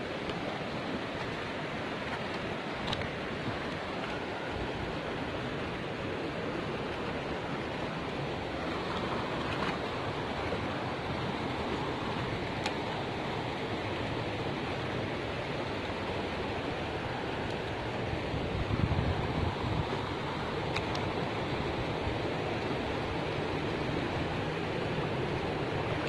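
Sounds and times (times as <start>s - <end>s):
fast-flowing river rushing: 0.0s - 26.0s.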